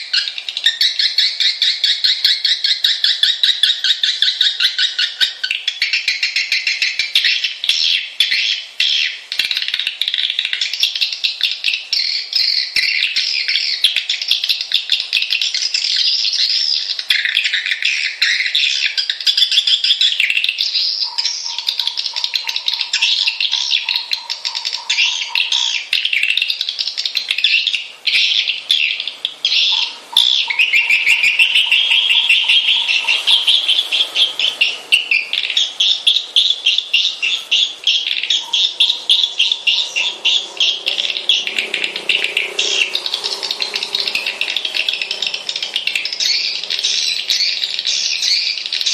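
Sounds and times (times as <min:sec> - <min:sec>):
swiftlets twittering: 0:02.8 - 0:48.9.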